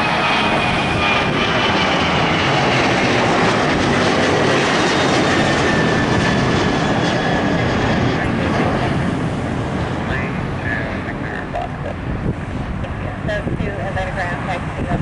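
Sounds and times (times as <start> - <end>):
high jet whine: 0.0 - 15.0
jet engines roaring: 0.0 - 15.0.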